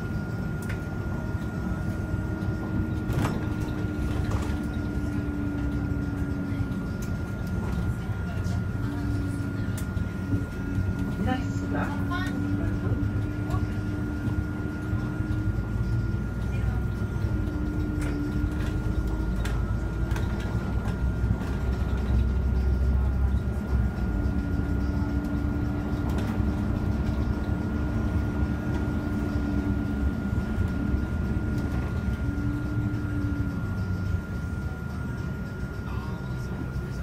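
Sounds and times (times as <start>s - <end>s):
bus engine and road rumble: 0.0s - 37.0s
mid-pitched whine: 0.0s - 37.0s.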